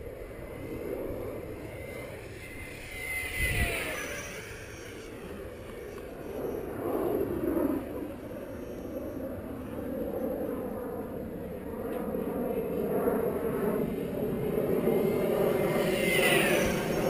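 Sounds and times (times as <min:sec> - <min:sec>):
model jet fan whining: 0:00.0 - 0:17.0.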